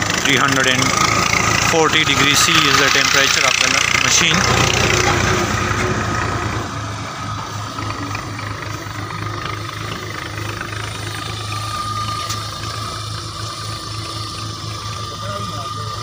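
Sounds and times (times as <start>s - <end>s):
welding machine humming and whining: 0.0s - 16.0s.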